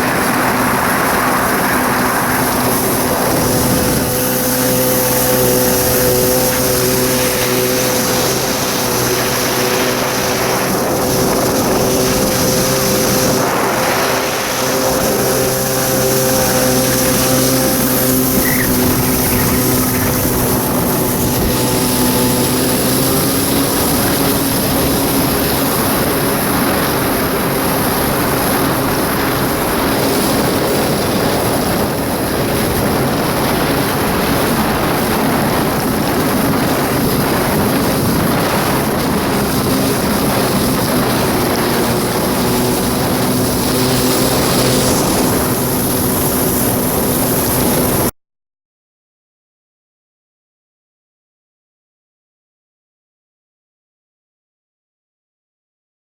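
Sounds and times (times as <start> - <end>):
jet ski engine running: 0.0 - 48.1
rush of water and wind: 0.0 - 48.1.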